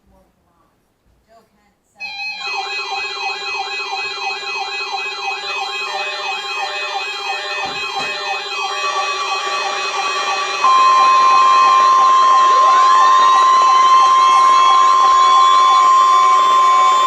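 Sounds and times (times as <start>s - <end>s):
single steady alarm tone: 2.0s - 17.0s
steady alarm tones: 2.0s - 17.0s
warbling siren tone: 2.0s - 17.0s.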